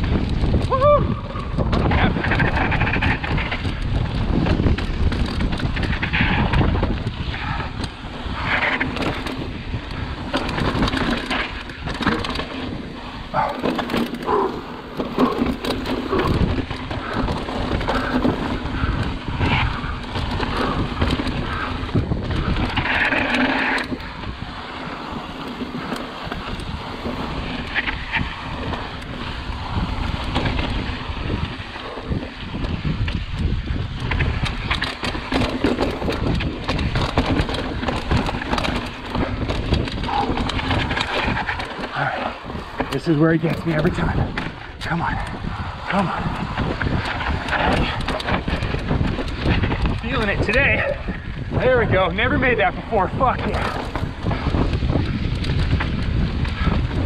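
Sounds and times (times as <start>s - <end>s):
bike rattling over bumps: 0.0s - 57.0s
wind on microphone: 0.0s - 57.0s
tyres crunching over gravel: 1.2s - 57.0s.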